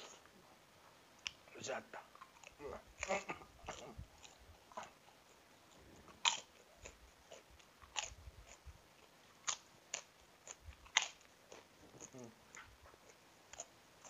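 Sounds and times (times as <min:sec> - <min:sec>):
person chewing and crunching food: 0:01.1 - 0:14.0
mouth clicks: 0:01.2 - 0:08.7, 0:09.4 - 0:14.0.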